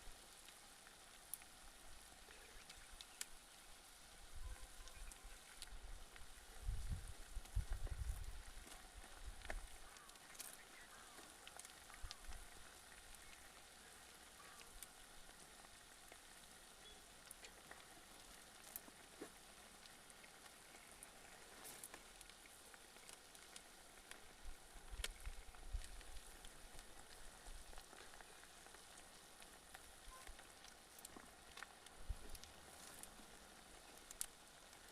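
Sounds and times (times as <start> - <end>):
chicken frying sizzle: 0.0 - 34.9.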